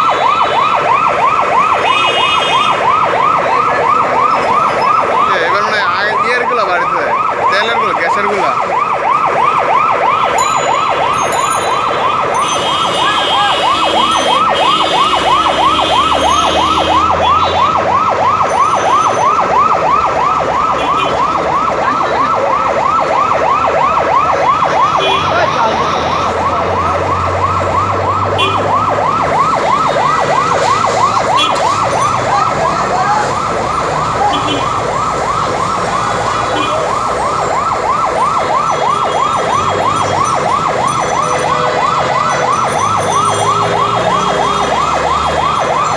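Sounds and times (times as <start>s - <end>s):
fire engine siren yelping: 0.0s - 45.9s.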